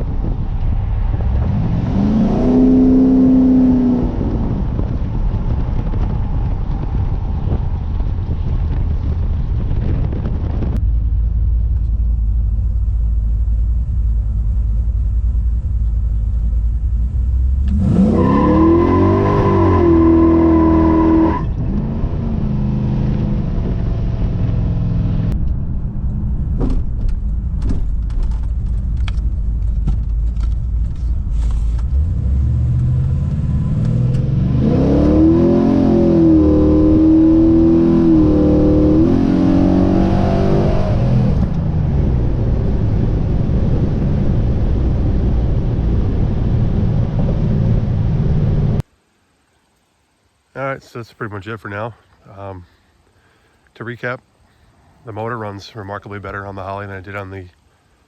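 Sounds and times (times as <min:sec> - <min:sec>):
truck engine rumbling: 0:00.0 - 0:49.4.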